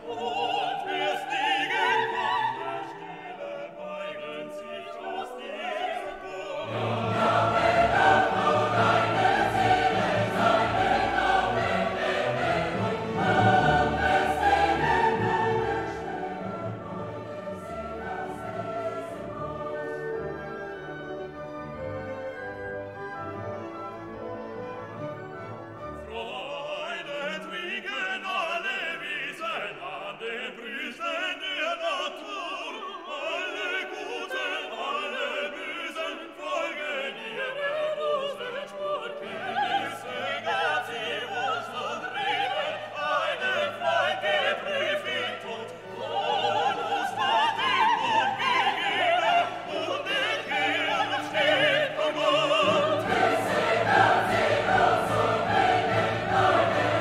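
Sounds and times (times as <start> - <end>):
orchestra with singing voices: 0.0 - 57.0.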